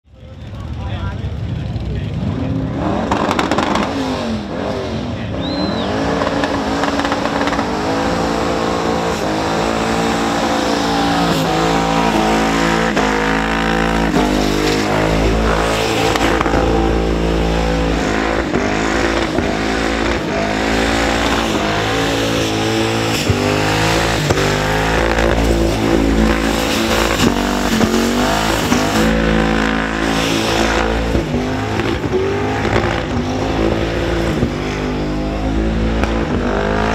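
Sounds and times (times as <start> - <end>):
car engine revving hard: 2.1 - 36.9.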